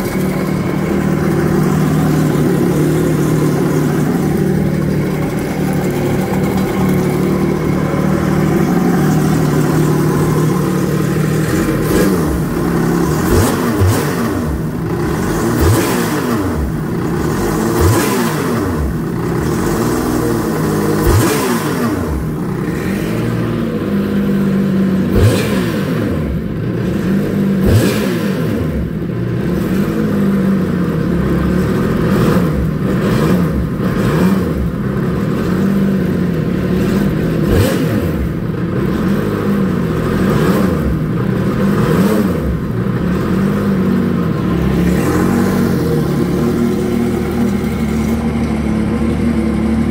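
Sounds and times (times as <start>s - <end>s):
watercraft engine idling and revving: 0.0s - 49.9s.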